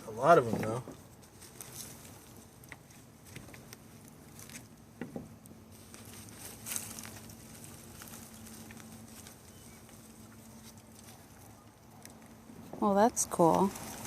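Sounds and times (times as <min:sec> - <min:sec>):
hands rustling through soil: 0:01.0 - 0:04.8, 0:05.6 - 0:14.0.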